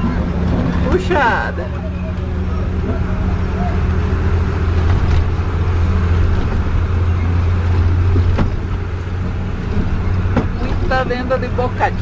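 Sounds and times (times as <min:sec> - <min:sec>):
engine droning inside cab: 0:00.0 - 0:12.0.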